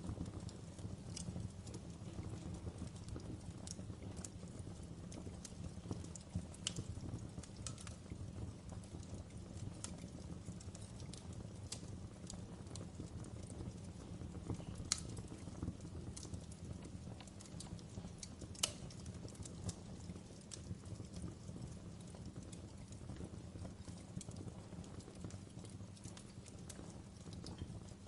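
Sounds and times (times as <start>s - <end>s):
fire crackling and popping: 0.0s - 28.0s
fire low rumble: 0.0s - 28.0s.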